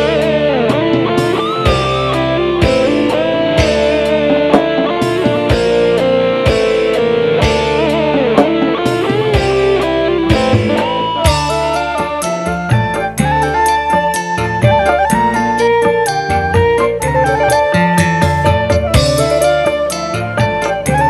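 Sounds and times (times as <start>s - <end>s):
drum beat: 0.0s - 21.0s
electric guitar melody: 0.0s - 21.0s
sustained bass: 0.0s - 21.0s.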